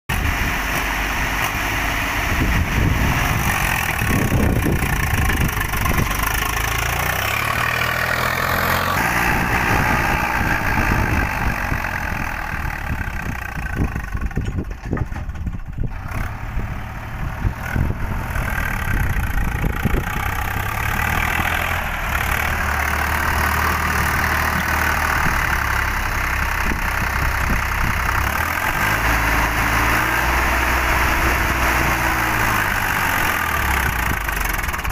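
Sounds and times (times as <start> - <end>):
diesel tractor engine: 0.1 - 34.9.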